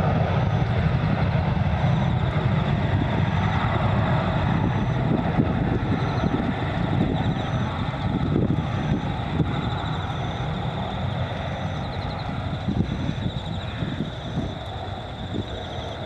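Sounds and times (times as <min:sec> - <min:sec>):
jet engines low rumble: 0:00.0 - 0:16.0.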